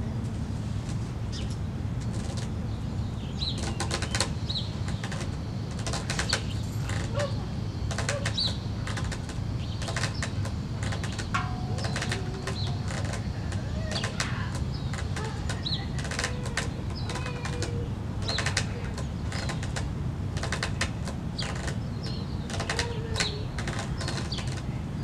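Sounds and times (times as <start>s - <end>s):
small birds chirping and twittering: 1.3s - 25.0s.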